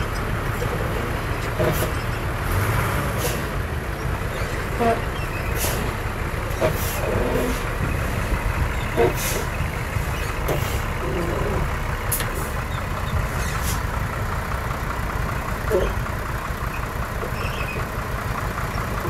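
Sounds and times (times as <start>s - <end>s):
diesel machinery running: 0.0s - 19.0s.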